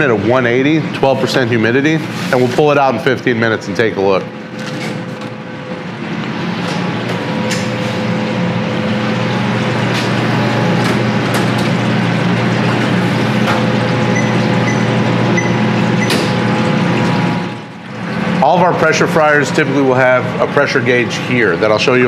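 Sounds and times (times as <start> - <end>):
kitchen machinery humming: 0.0 - 22.0.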